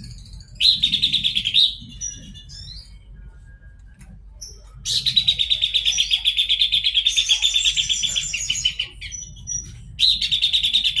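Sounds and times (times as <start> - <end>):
bird singing a rattling trill: 0.0 - 3.2, 4.4 - 11.0.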